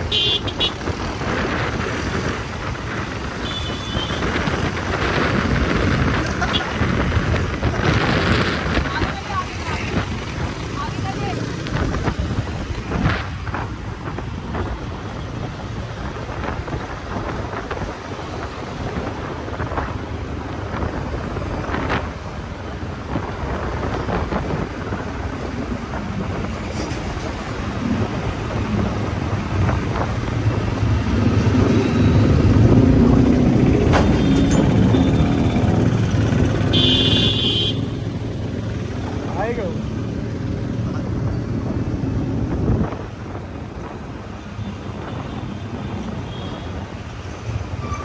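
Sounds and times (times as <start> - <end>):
road traffic: 0.0 - 48.0
vehicle engine drone: 0.0 - 48.0
wind buffeting microphone: 4.1 - 36.7, 40.0 - 47.8.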